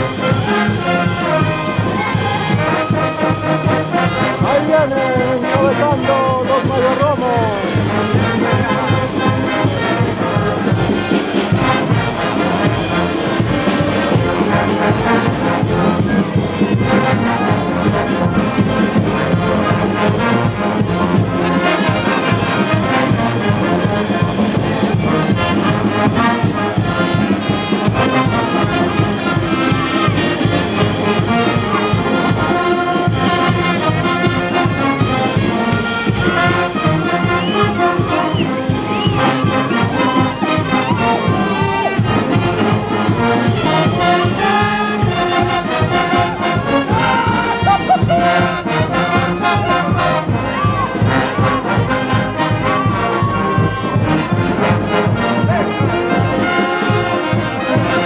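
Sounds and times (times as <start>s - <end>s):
brass band playing: 0.0s - 58.0s
steady drum beat: 0.0s - 58.0s.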